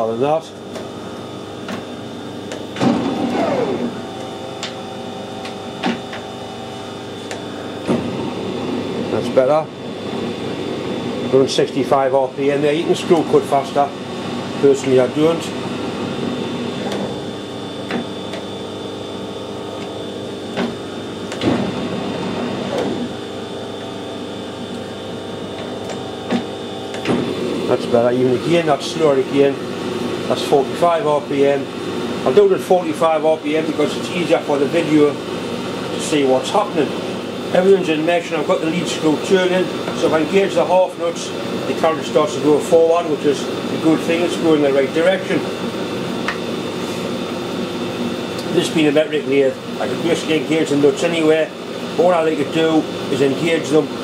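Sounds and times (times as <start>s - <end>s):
lathe drive humming: 0.0s - 54.0s.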